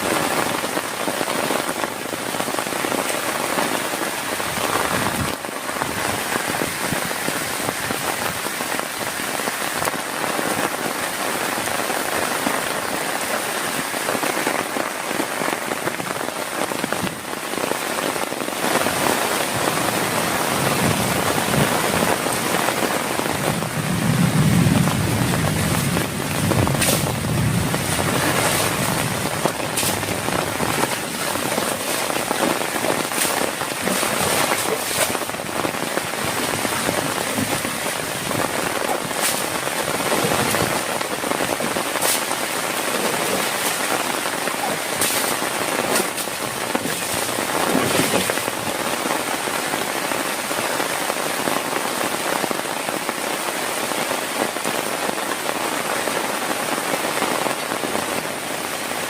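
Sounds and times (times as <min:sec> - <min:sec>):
heavy rain falling: 0:00.0 - 0:59.0
large raindrops popping on surface: 0:00.0 - 0:59.0.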